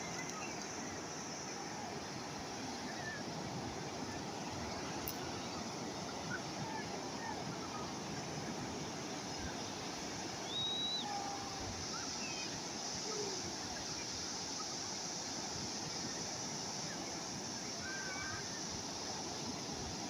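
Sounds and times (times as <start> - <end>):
calm sea waves: 0.0 - 20.0.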